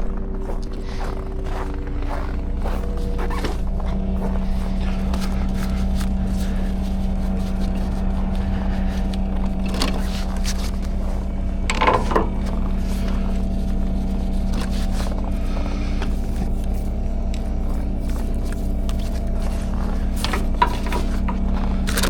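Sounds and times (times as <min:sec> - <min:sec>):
truck engine humming: 0:00.0 - 0:22.0.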